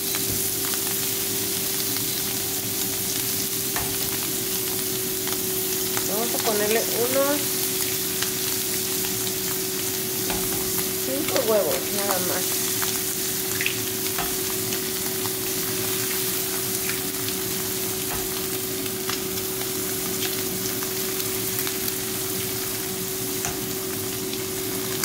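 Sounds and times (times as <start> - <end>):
food sizzling in a skillet: 0.0 - 25.0.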